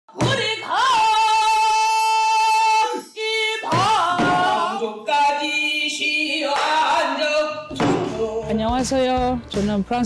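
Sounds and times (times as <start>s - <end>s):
woman singing: 0.1s - 10.0s.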